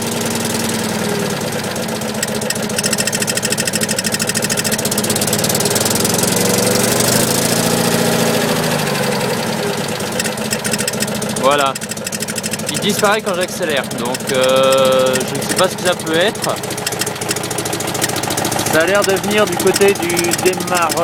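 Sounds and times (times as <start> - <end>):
engine clacking: 0.0 - 21.0
engine idling: 0.0 - 21.0.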